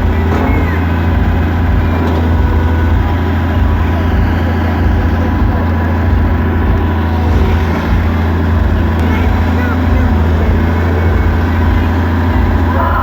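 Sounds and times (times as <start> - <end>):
large engine rumbling: 0.0 - 13.0.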